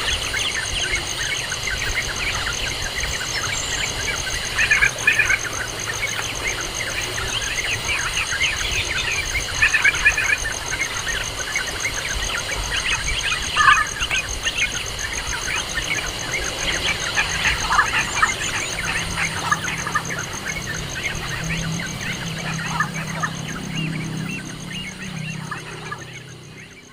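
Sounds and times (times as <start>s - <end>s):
birds chirping: 0.0s - 26.9s
low hum: 0.0s - 26.9s.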